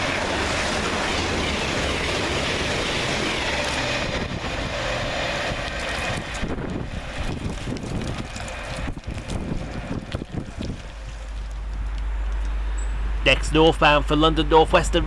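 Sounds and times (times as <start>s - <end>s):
diesel train passing: 0.0s - 15.0s.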